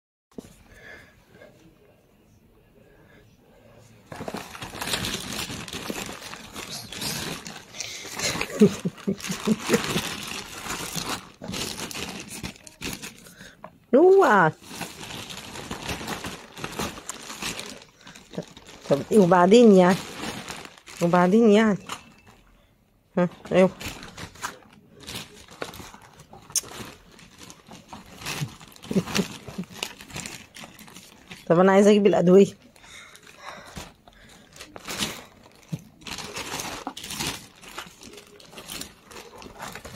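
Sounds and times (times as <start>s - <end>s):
plastic bag crinkling and rustling: 4.1s - 22.5s, 23.2s - 39.9s.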